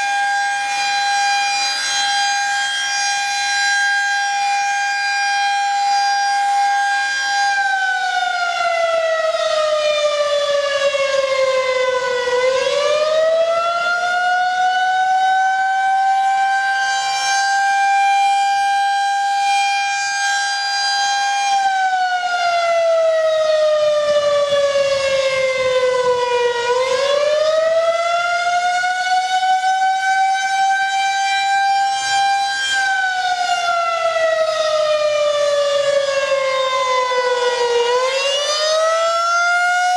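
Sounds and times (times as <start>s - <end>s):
high-pitched rotating siren wail: 0.0s - 39.9s.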